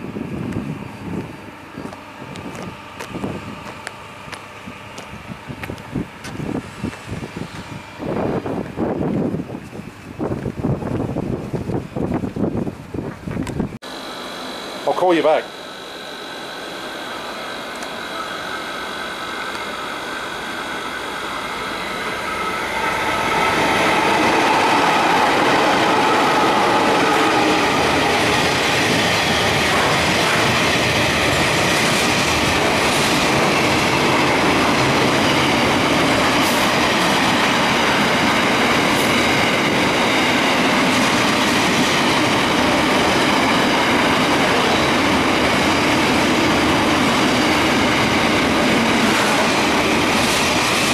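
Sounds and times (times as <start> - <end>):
train wheels on rails: 0.0 - 13.8, 14.4 - 50.9
freight train passing: 0.0 - 50.9.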